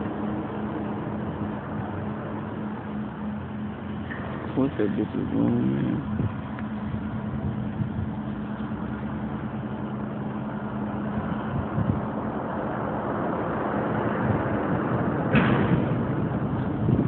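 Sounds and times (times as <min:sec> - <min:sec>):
boat engine humming: 0:00.0 - 0:15.4.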